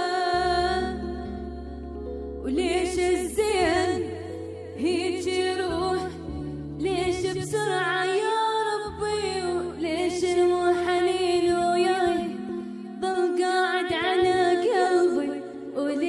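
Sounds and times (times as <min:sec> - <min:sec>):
woman singing ornamented song: 0:00.0 - 0:16.0.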